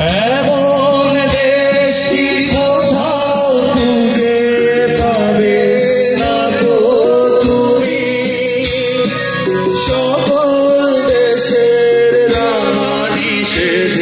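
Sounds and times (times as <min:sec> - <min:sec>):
drum beats: 0:00.0 - 0:14.0.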